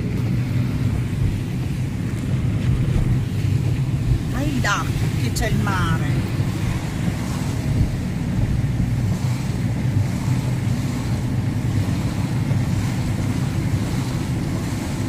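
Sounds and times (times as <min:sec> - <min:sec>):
car rumble from inside cabin: 0:00.0 - 0:15.0
tyres hissing on wet road: 0:00.0 - 0:15.0.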